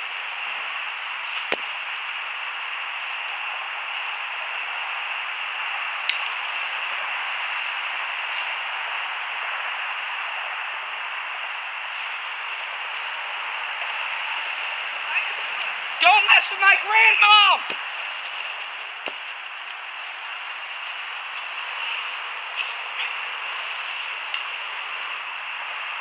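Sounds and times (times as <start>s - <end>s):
propane torch hissing: 0.0s - 16.6s, 17.6s - 25.8s.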